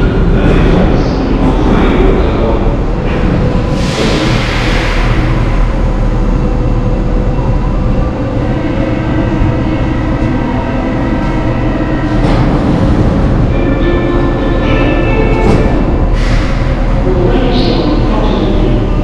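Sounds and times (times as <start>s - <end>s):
steady tones: 0.0s - 19.0s
train low rumble: 0.0s - 19.0s.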